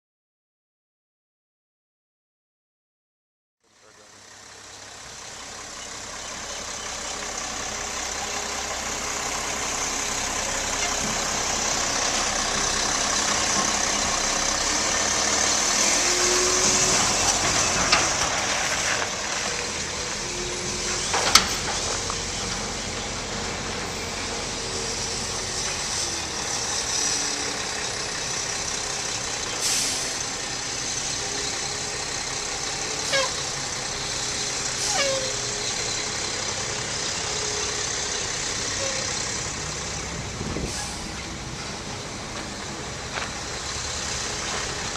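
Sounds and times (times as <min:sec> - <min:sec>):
diesel truck engine running: 0:03.6 - 0:44.9.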